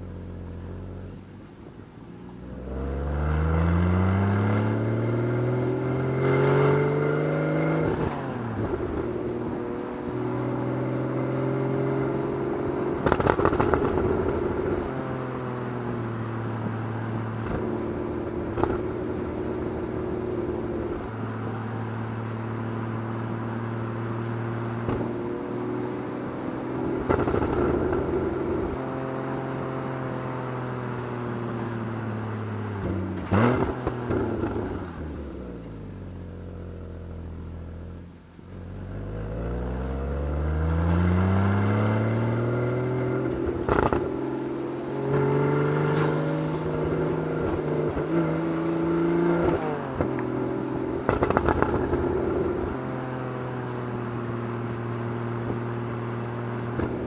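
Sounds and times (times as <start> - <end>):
car engine accelerating and slowing: 0.0 - 57.0.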